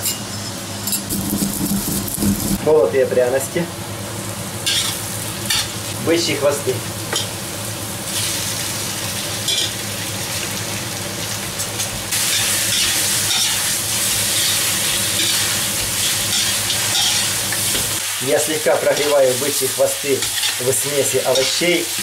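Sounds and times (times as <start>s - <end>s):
meat and vegetables sizzling in oil: 1.1s - 2.6s, 3.9s - 22.0s.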